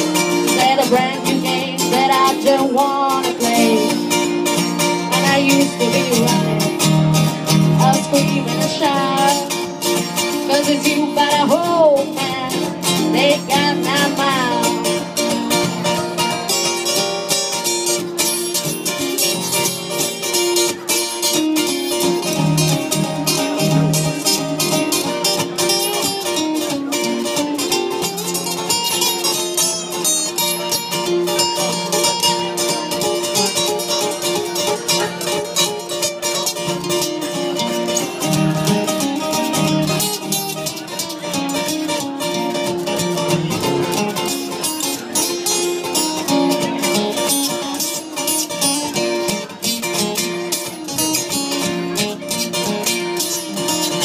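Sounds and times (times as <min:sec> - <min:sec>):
lead guitar: 0:00.0 - 0:54.0
live band playing: 0:00.0 - 0:54.0.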